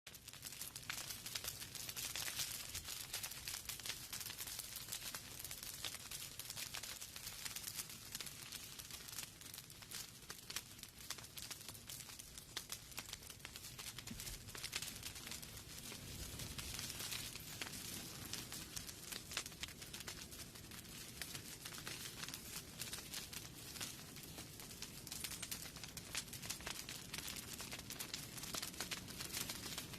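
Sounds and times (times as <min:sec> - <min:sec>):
rain drops pattering: 0:00.1 - 0:29.9.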